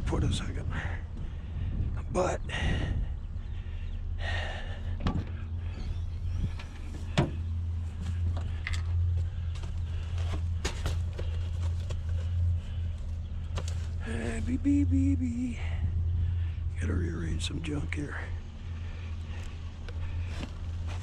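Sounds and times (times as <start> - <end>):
van engine idling: 0.0 - 21.0.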